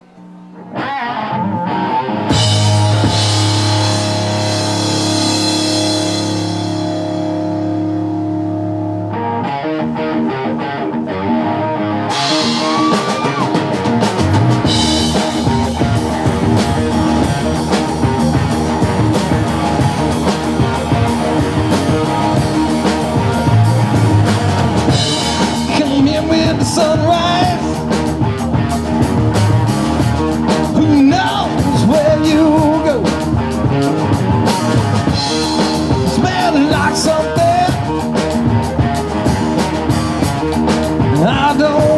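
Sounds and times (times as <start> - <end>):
lead guitar bending notes: 0.0 - 41.9
rock band playing: 0.0 - 41.9
drums and cymbals: 2.3 - 8.4, 12.1 - 41.9.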